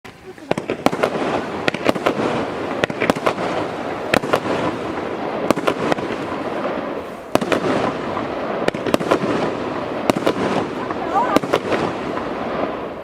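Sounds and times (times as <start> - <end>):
firework bangs: 0.1 - 13.0
firework crackling: 0.1 - 13.0.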